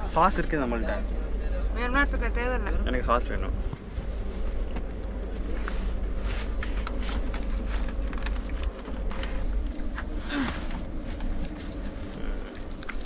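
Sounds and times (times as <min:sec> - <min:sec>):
passenger train rumbling: 0:00.0 - 0:12.4.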